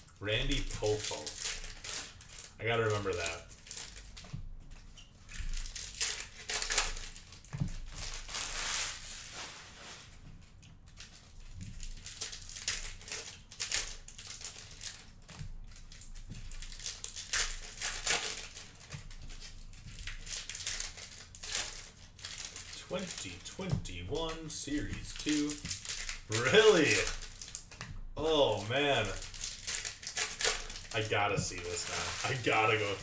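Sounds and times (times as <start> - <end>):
plastic wrappers crinkling: 0.0 - 33.0.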